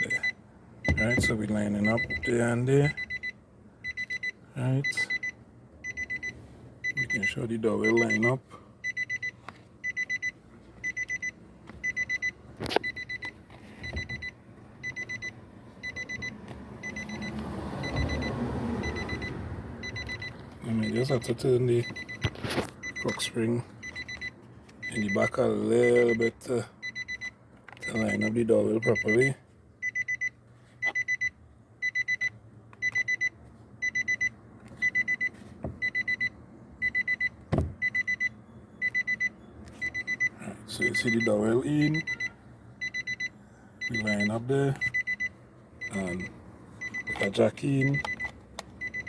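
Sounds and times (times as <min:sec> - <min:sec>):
car warning chime beeping: 0:00.0 - 0:49.0.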